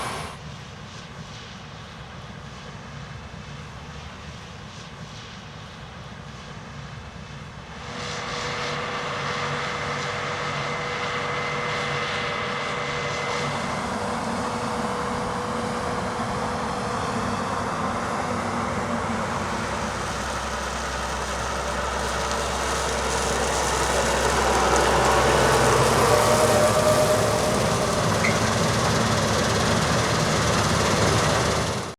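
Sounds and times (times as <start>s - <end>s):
diesel machinery droning with whine: 0.0s - 31.9s.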